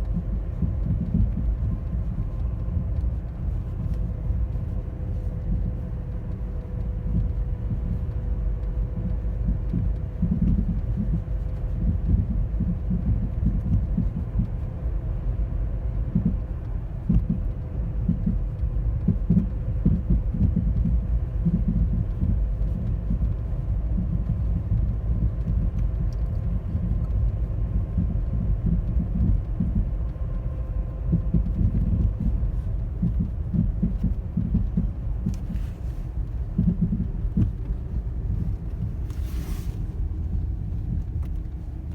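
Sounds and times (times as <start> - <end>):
car rumbling and popping: 0.0 - 41.9
faint steady hum: 0.0 - 41.9.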